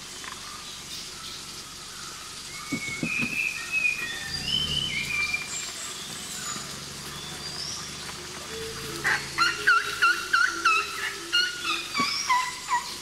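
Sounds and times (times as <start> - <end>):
birds whistling calls: 0.4 - 13.0.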